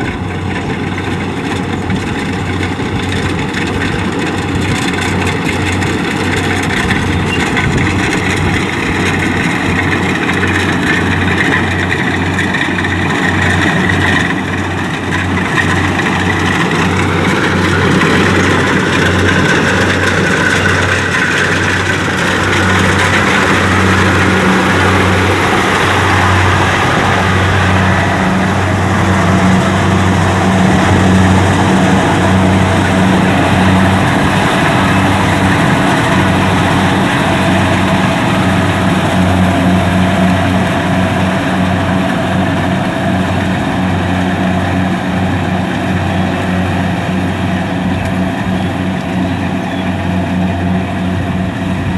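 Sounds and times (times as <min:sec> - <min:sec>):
combine harvester diesel engine: 0:00.0 - 0:51.9.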